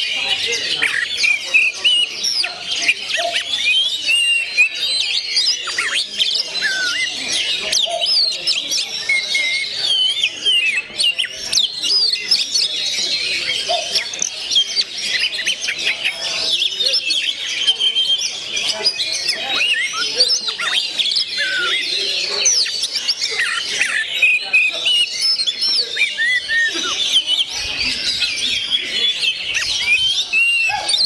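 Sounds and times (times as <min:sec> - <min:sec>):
songbird whistling and chattering: 0:00.0 - 0:31.0.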